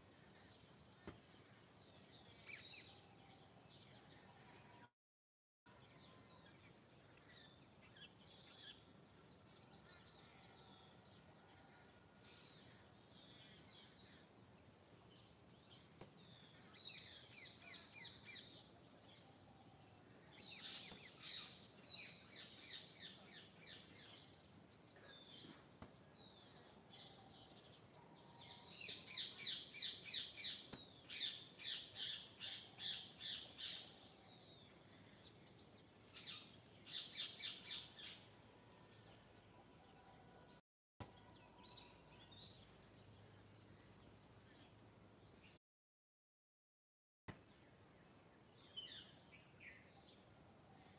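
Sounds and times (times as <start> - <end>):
songbirds chirping: 0.0 - 4.9, 5.7 - 45.6, 47.3 - 50.9.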